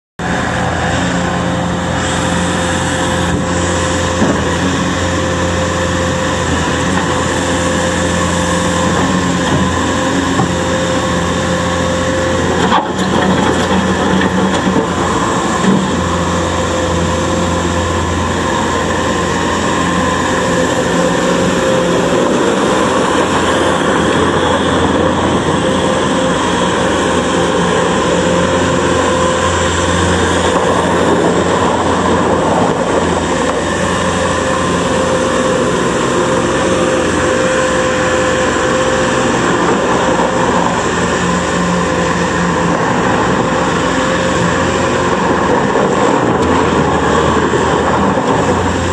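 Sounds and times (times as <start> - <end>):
diesel engine running: 0.2 - 48.9
loader driving over gravel: 0.2 - 48.9.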